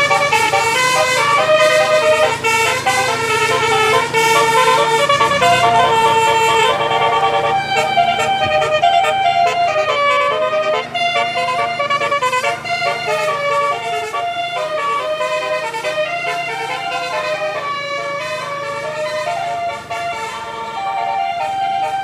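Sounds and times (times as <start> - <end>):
bus engine hum: 0.0 - 22.0
bus horn playing a tune: 0.0 - 22.0.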